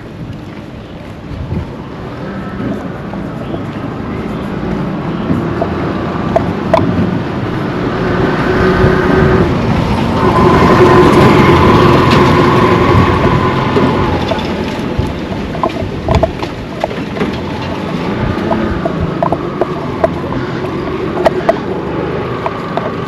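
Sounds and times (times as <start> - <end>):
vehicle engine passing: 1.8 - 23.0.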